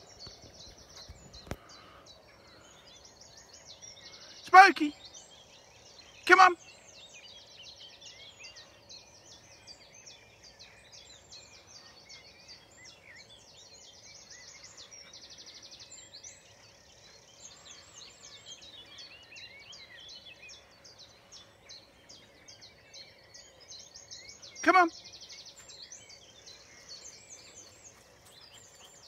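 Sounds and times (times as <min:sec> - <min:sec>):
songbirds singing and chirping: 0:00.0 - 0:29.0.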